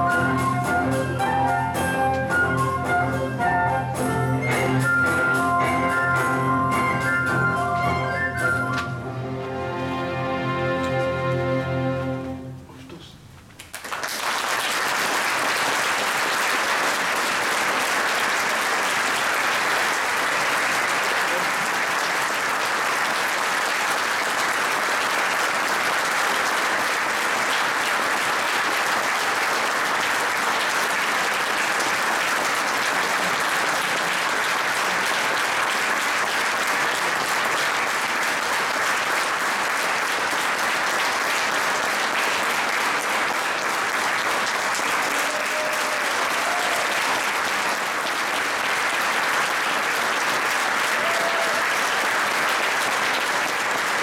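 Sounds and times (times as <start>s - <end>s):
crowd applauding: 0.0s - 8.8s, 13.6s - 54.0s.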